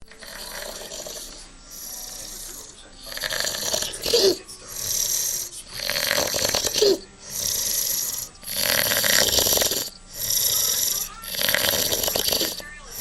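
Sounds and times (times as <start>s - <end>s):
man snoring: 0.0s - 13.0s.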